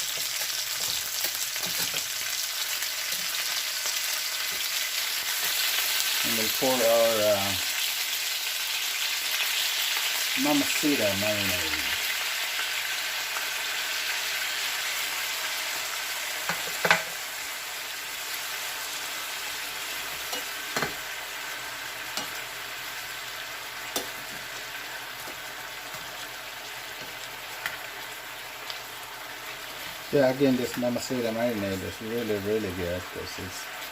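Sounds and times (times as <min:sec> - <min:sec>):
chicken sizzling in a frying pan: 0:00.0 - 0:33.9.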